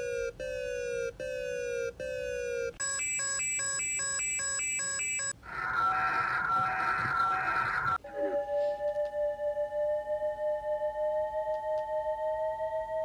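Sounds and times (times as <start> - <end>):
alarm tone: 0.0 - 13.0.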